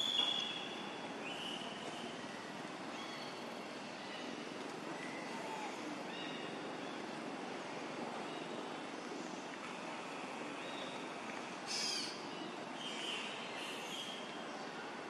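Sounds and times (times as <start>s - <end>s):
forest background hush: 0.0s - 15.0s.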